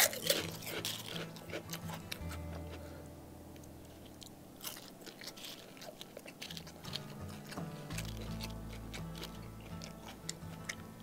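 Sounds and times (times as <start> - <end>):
chewing crisp crackers: 0.0 - 11.0.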